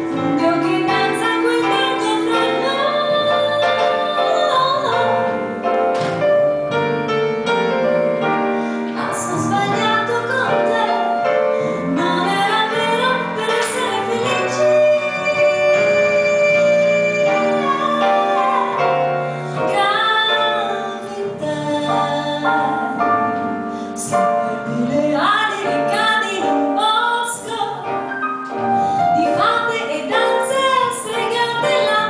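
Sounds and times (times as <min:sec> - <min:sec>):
woman singing jazz: 0:00.0 - 0:05.7, 0:08.9 - 0:28.2, 0:29.0 - 0:32.0.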